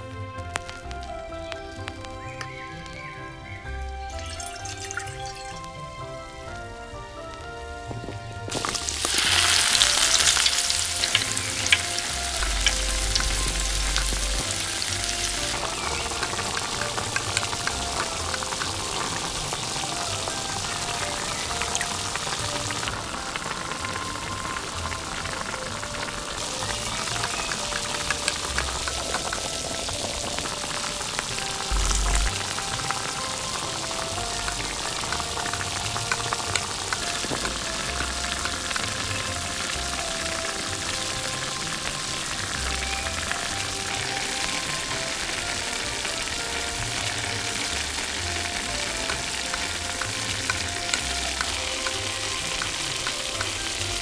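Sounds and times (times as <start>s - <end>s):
sauce sizzling in hot oil: 4.1s - 6.6s, 8.4s - 54.0s.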